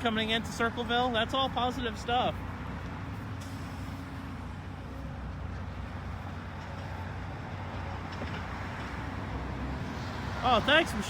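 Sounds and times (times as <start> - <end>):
large engine rumbling: 0.0 - 11.0.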